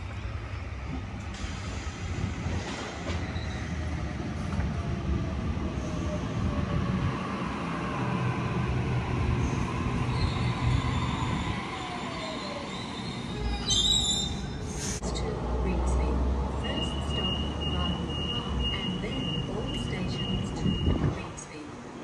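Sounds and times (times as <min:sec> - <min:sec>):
train wheels rumbling on rails: 0:00.0 - 0:21.4.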